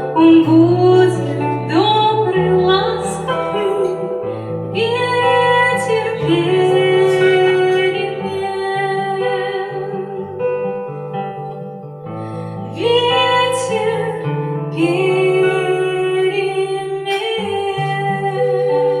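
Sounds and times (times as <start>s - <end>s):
woman singing: 0.0s - 10.4s, 12.2s - 19.0s
guitar accompaniment: 0.0s - 19.0s.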